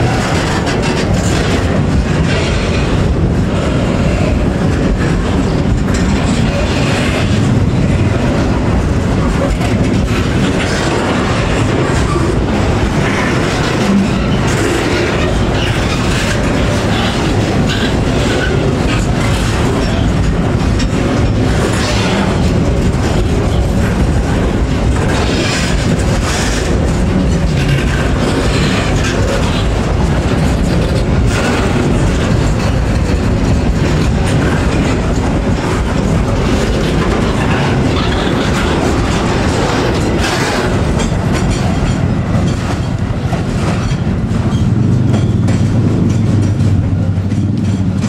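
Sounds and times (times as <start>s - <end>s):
train wheels clattering on rails: 0.0s - 48.0s.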